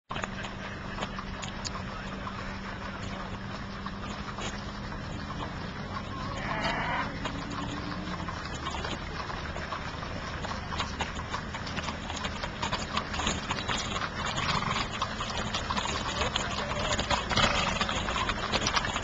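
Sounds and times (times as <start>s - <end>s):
horse hooves on asphalt: 0.1s - 19.0s.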